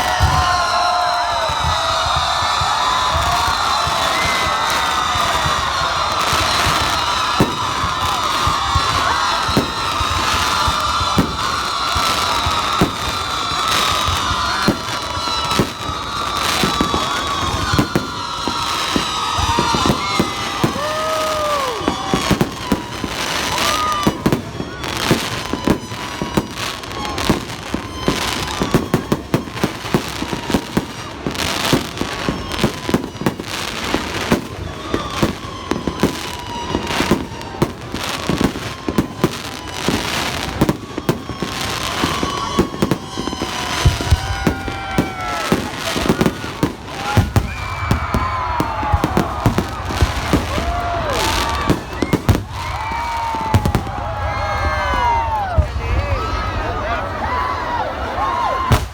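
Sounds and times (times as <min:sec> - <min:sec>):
fireworks whistling: 0:00.0 - 0:56.8, 0:57.6 - 0:58.9
deep fireworks booms: 0:00.0 - 0:58.9
fireworks bangs and crackling: 0:00.0 - 0:58.9.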